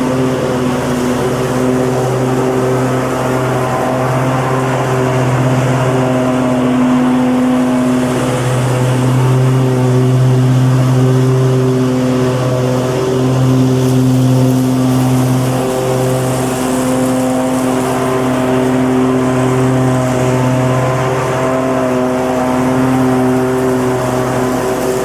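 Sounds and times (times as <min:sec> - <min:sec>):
lawn mower engine running: 0:00.0 - 0:25.0.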